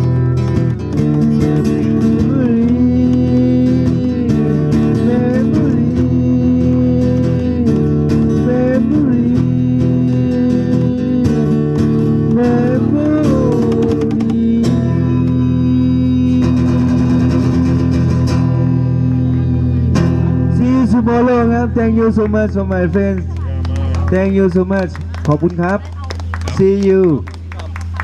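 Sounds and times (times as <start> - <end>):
blues band playing: 0.0 - 23.3
guitar bending long notes: 0.0 - 25.5.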